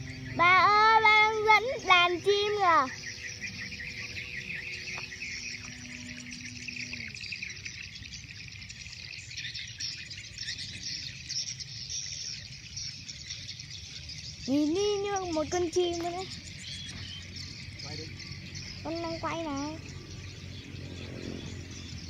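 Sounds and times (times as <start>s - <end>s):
birds chirping: 0.0s - 22.0s
insects chirring: 0.0s - 22.0s.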